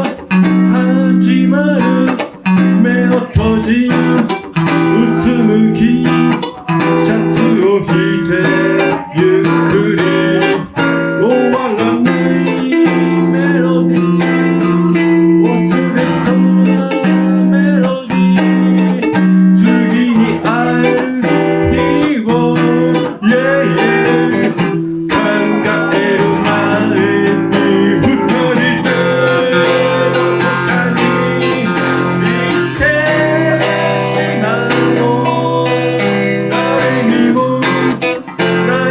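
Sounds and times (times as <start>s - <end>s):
blues electric guitar solo: 0.0s - 38.9s.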